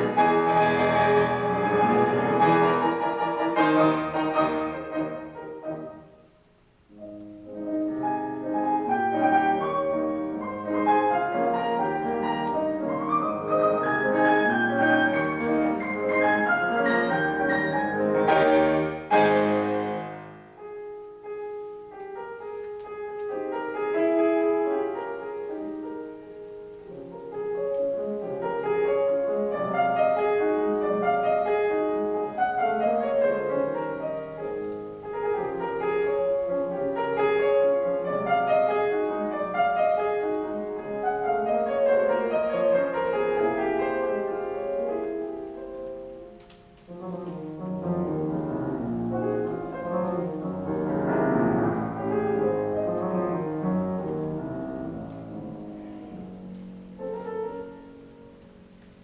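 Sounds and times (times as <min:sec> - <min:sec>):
solo piano: 0:00.0 - 0:59.0.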